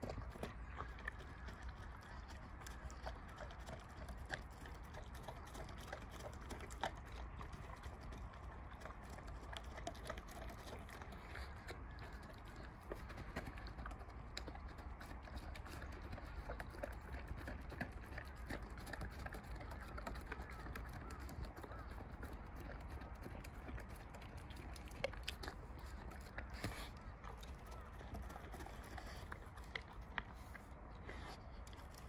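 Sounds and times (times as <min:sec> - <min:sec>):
dog eating with wet smacking: 0:00.0 - 0:32.0.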